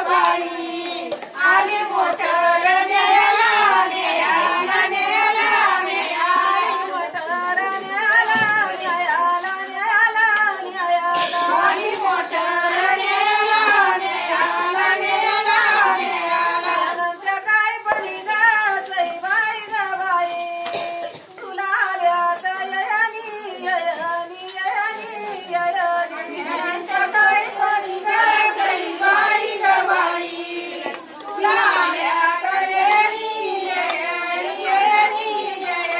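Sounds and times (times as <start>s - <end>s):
women singing unaccompanied: 0.0s - 35.9s.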